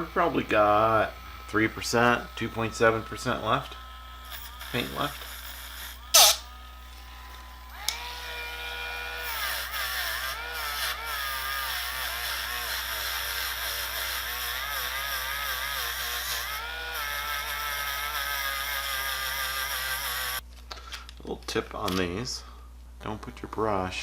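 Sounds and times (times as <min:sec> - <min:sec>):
rotary tool wire brush whine: 0:00.0 - 0:20.4.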